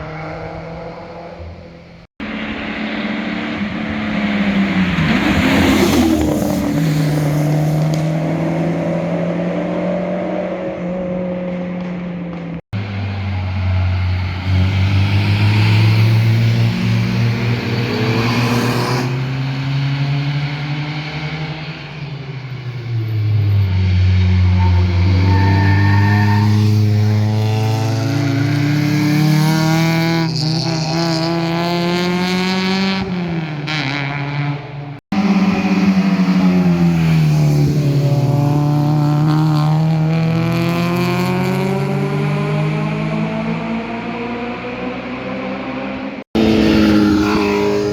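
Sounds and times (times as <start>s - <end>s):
cars driving past revving: 0.0s - 47.9s.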